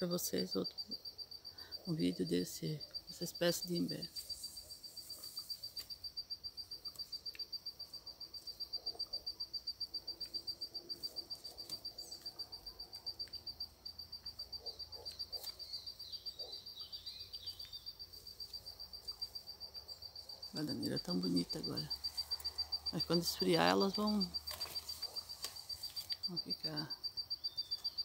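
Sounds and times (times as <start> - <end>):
cricket trilling: 0.0 - 28.0.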